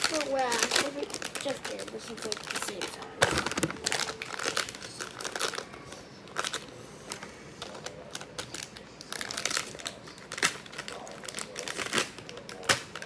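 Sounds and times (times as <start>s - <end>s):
packaging crinkling and clicking: 0.0s - 5.7s, 6.3s - 13.0s
packaging crackling: 0.0s - 13.0s.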